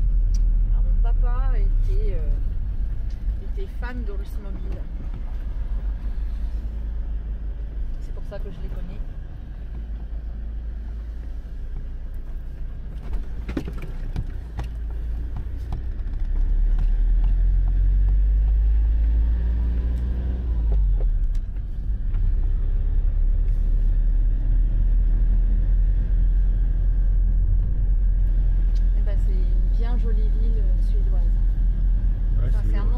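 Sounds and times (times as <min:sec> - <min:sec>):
engine and road rumble: 0:00.0 - 0:32.9.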